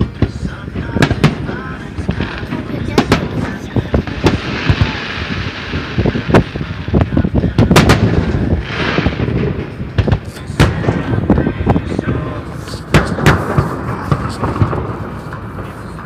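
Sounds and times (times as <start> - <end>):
firework hiss: 0.0 - 16.0
fireworks booming and banging: 0.0 - 16.0.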